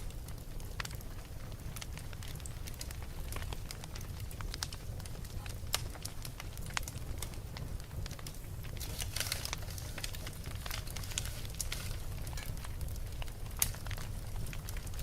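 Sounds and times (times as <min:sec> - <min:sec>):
low steady rumble: 0:00.0 - 0:15.0
wood fire crackling and popping: 0:00.0 - 0:15.0.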